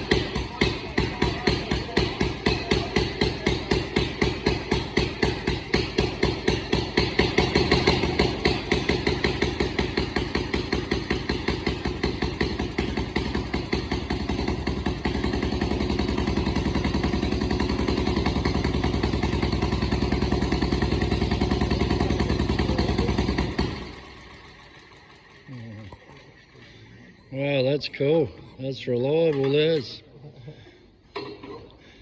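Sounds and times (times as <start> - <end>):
vintage engine running: 0.0 - 27.3.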